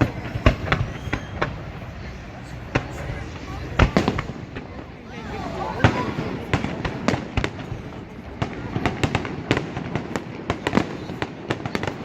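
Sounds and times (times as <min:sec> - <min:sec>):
aerial fireworks bursting: 0:00.0 - 0:12.0.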